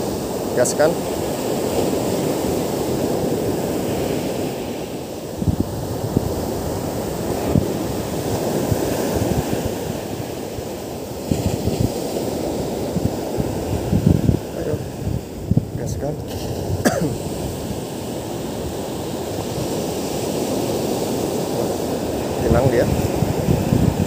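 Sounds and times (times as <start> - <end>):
ocean surf breaking on beach: 0.0 - 24.0
wind gusting on microphone: 0.0 - 24.0.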